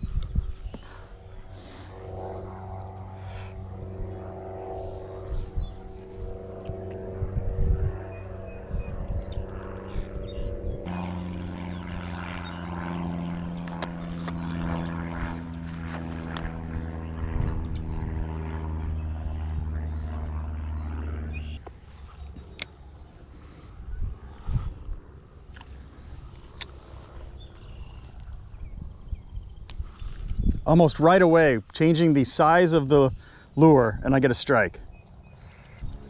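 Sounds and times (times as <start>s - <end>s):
engine drone: 0.0s - 36.0s.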